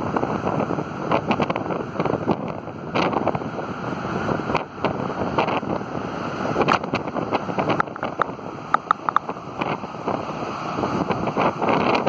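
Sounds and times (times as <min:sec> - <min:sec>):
storm surf crashing on rocks: 0:00.0 - 0:12.0
wind buffeting microphone: 0:00.0 - 0:12.0.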